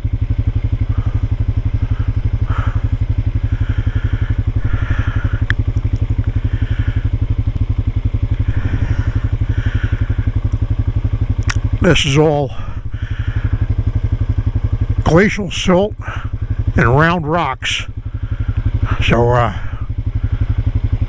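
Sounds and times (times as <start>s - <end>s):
atv engine chugging at low revs: 0.0s - 21.0s.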